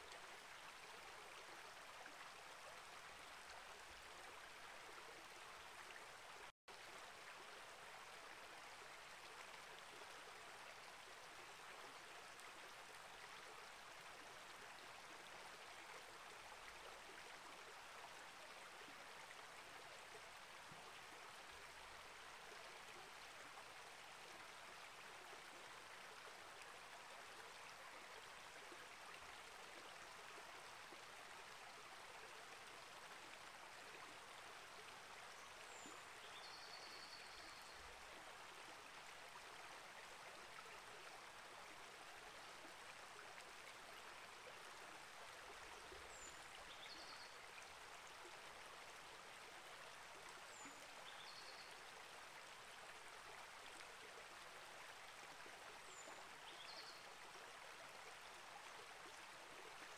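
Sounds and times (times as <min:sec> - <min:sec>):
creek flowing: 0:00.0 - 0:59.9.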